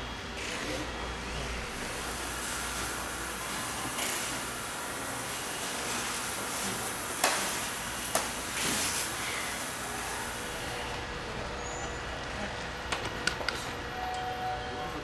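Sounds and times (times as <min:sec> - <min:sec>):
factory machinery noise: 0:00.0 - 0:15.0.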